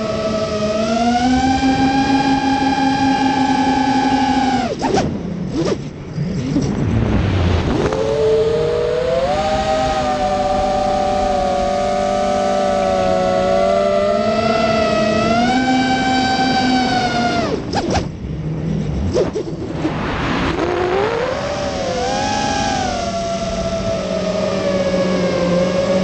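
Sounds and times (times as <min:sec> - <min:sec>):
drone motors and propellers whining: 0:00.0 - 0:26.0.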